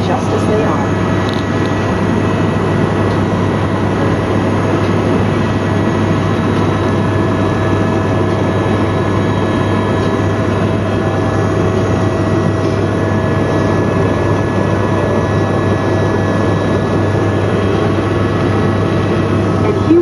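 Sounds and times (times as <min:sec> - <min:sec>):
helicopter engine and rotors drone: 0:00.0 - 0:20.0.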